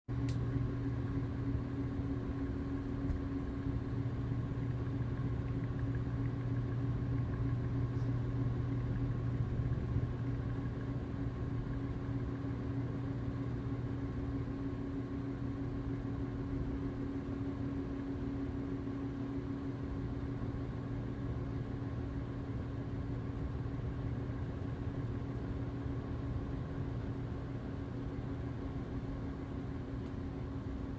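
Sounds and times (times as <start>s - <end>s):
ceiling fan motor humming: 0.1s - 30.9s.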